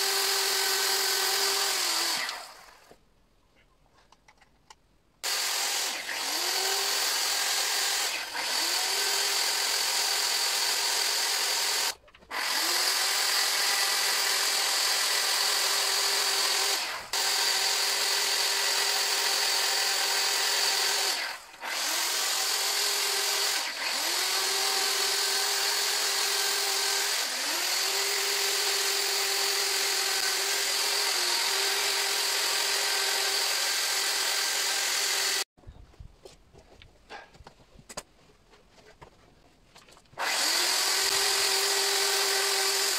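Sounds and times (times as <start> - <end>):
chainsaw running at high revs: 0.0 - 2.8, 5.2 - 35.5, 40.2 - 42.9.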